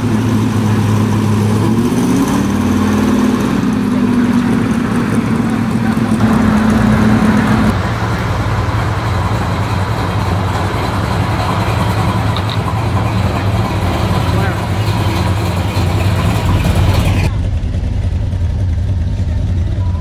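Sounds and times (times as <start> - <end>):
car engine pulling away: 0.0 - 20.0
pickup engine rumbling: 0.0 - 20.0.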